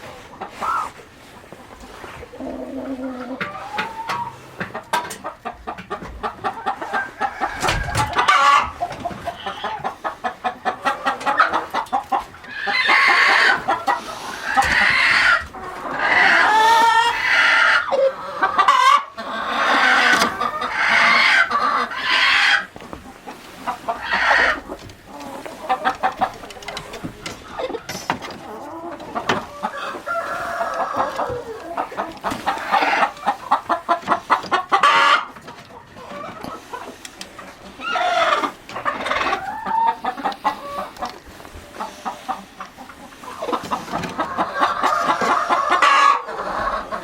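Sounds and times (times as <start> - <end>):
chickens clucking: 0.0 - 47.0
chickens loud drawn-out calls: 0.0 - 47.0.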